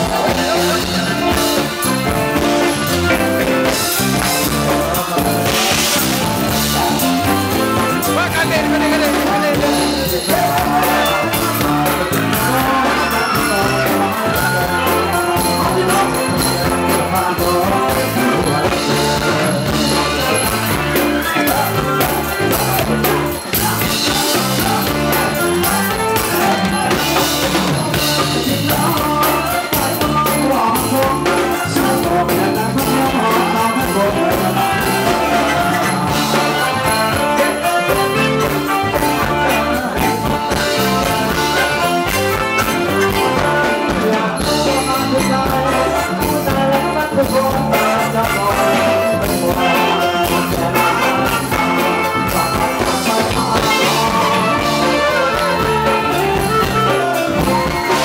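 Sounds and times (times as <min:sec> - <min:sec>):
drum kit: 0:00.0 - 0:58.0
electric guitar: 0:00.0 - 0:58.0
person singing: 0:00.0 - 0:58.0.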